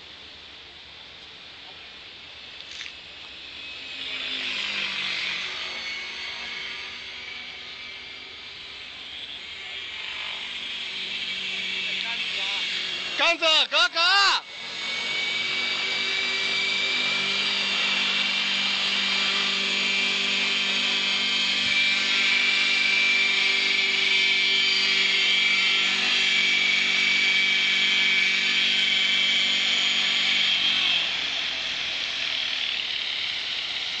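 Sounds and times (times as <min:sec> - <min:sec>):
model helicopter rotor whine: 0:00.0 - 0:34.0.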